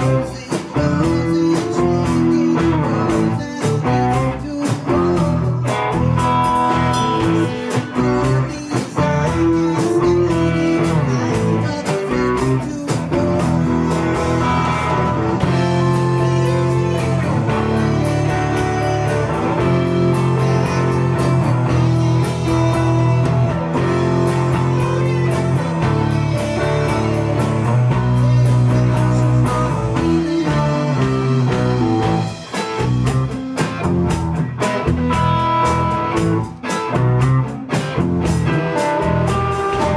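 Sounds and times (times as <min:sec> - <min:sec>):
drums: 0:00.0 - 0:39.9
electric guitars: 0:00.0 - 0:39.9.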